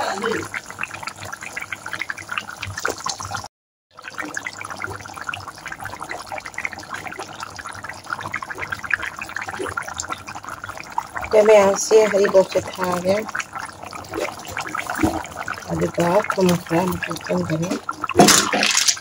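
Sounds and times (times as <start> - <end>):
thick gravy bubbling and popping: 0.0 - 19.0.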